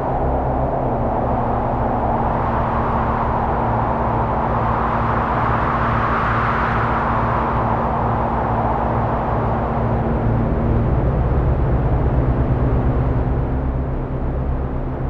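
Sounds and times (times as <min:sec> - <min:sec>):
noisy wind-like synthesizer drone: 0:00.0 - 0:15.0.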